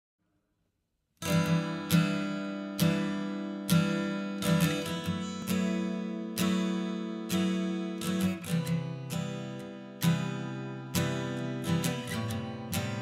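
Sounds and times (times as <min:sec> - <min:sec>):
acoustic guitar strumming chords: 0:01.2 - 0:13.0.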